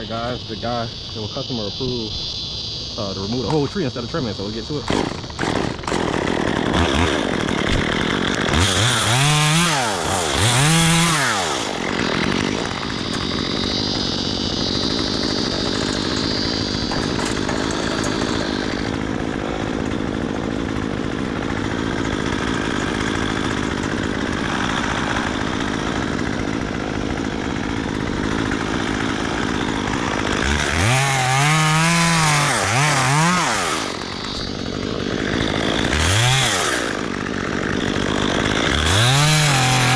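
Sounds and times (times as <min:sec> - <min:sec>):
chainsaw revving and running: 0:03.1 - 0:39.9.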